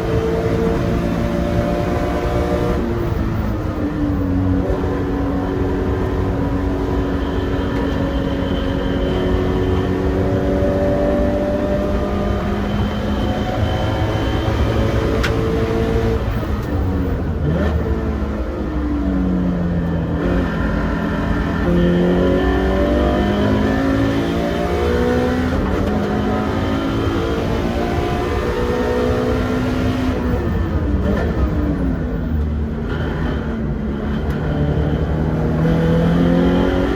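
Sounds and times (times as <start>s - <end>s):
car engine revving with gear changes: 0.0s - 36.9s.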